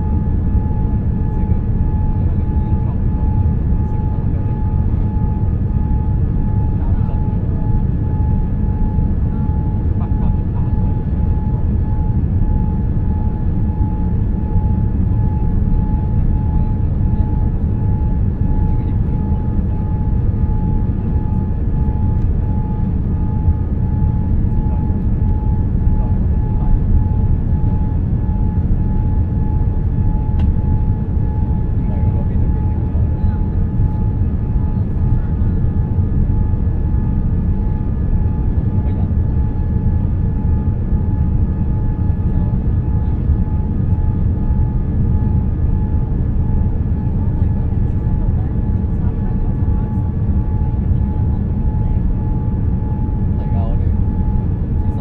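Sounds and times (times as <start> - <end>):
airliner cabin rumble: 0.0 - 55.0.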